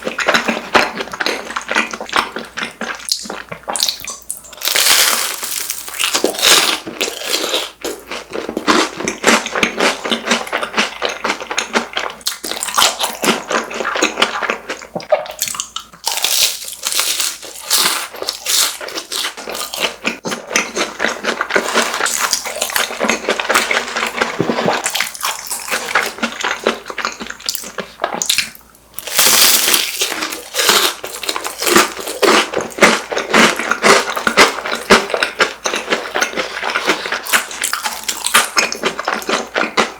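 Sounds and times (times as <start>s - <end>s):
chewing crispy snacks: 0.0s - 39.9s.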